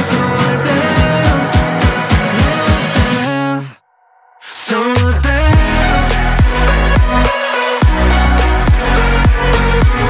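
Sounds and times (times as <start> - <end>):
music with low thudding beat: 0.0 - 3.4, 5.0 - 10.0.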